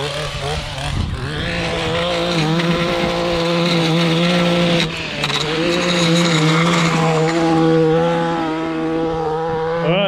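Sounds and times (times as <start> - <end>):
two-stroke edger engine: 0.0 - 10.0.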